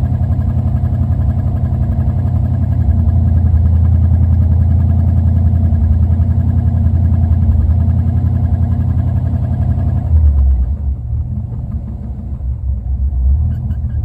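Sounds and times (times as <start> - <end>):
car engine idling roughly: 0.0 - 14.0.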